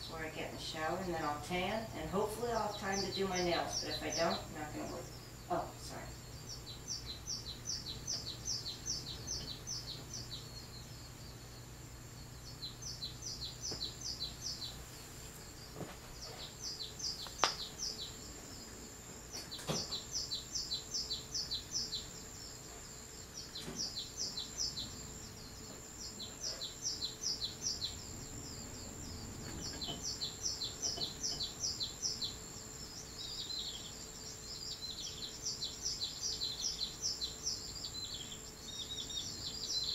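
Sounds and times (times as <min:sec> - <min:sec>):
faint high whine: 0:00.0 - 0:39.9
songbird chirping: 0:00.0 - 0:39.9.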